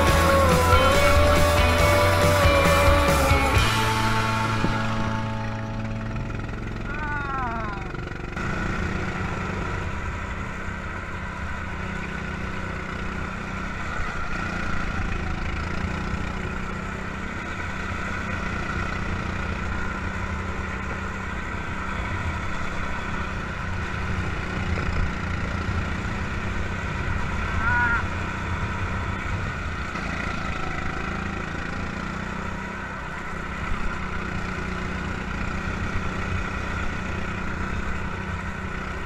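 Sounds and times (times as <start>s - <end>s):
go-kart engine running: 0.0s - 39.0s
wind and road noise: 0.0s - 39.0s.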